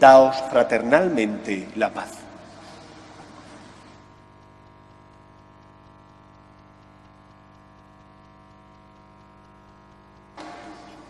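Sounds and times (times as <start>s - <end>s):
faint electrical mains hum: 0.0s - 11.0s.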